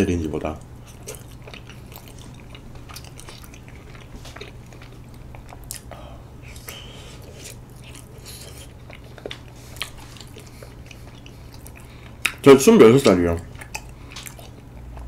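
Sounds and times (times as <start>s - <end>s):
steady low hum: 0.0s - 15.0s
chewing rice cakes: 0.6s - 15.0s.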